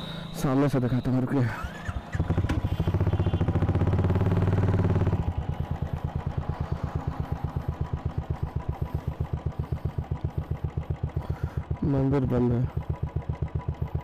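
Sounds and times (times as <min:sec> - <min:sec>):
motorcycle engine thumping: 0:01.9 - 0:14.0.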